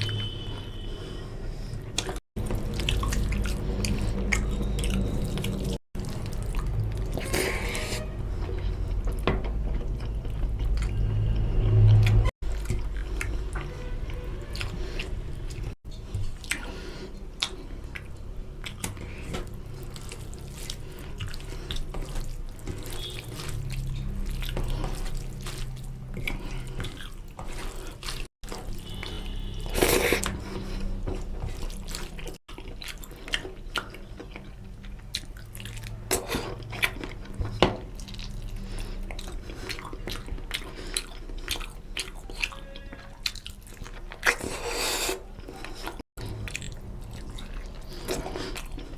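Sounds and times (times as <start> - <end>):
wet chewing and lip smacks: 1.9 - 7.3, 14.5 - 48.9.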